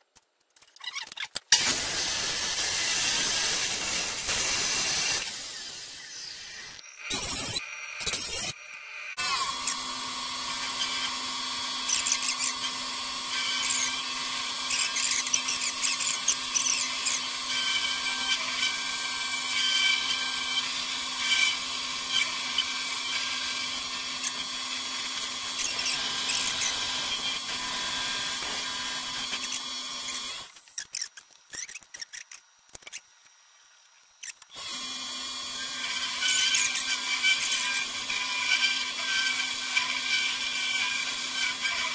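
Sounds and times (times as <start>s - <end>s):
cutter scraping steel: 1.0s - 33.1s, 34.2s - 41.9s.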